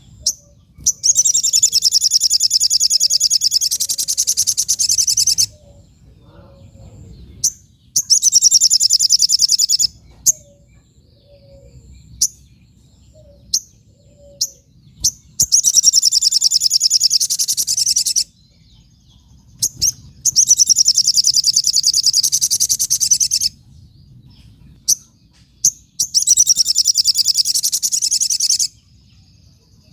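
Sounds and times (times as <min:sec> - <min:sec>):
songbird trilling: 0:00.0 - 0:29.9.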